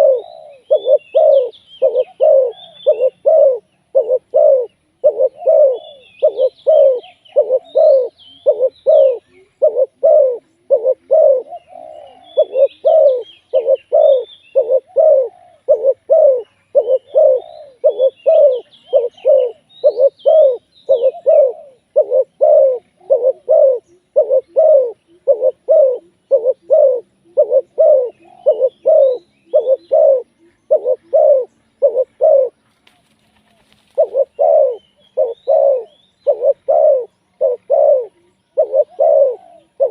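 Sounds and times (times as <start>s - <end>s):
dove cooing: 0.0s - 39.9s
small birds chirping faintly: 0.0s - 39.9s.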